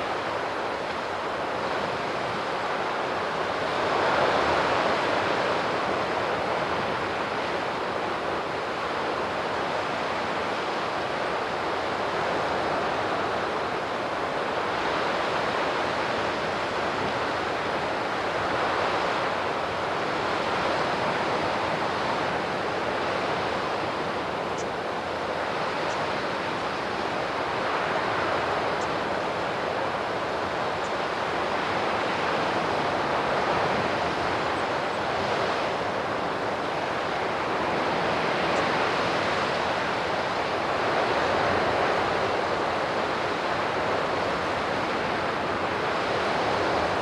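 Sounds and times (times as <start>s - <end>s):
sea surf washing against shore: 0.0s - 47.0s.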